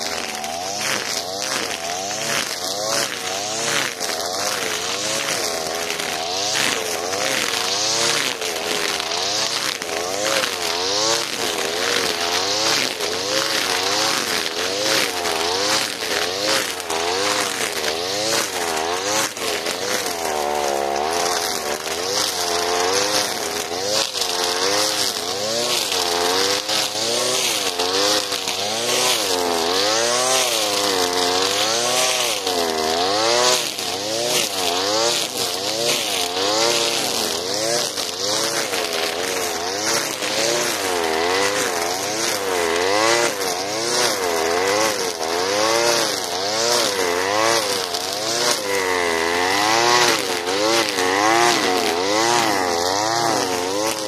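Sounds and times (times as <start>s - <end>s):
brushcutter engine running: 0.0s - 54.0s
nylon line cutting grass: 0.0s - 54.0s.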